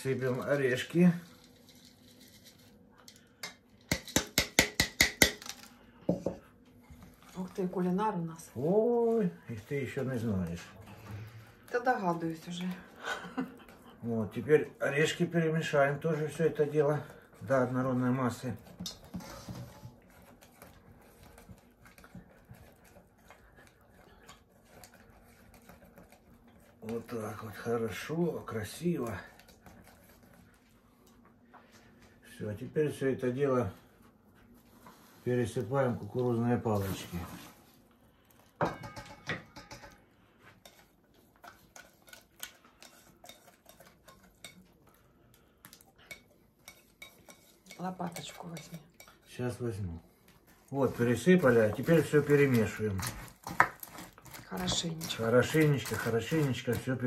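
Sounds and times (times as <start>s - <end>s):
whisk scraping saucepan: 0.0s - 5.2s, 7.0s - 31.2s, 38.8s - 57.0s.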